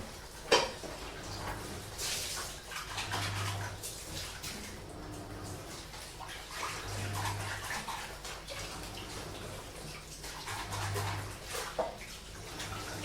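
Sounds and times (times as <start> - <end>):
washing machine hum: 0.0 - 13.0
water splashing and running: 0.0 - 13.0.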